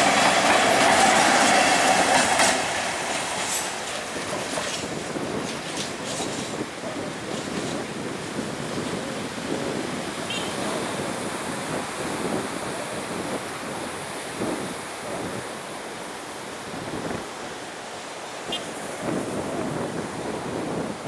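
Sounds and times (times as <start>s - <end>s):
wind blowing across microphone: 0.0s - 21.0s.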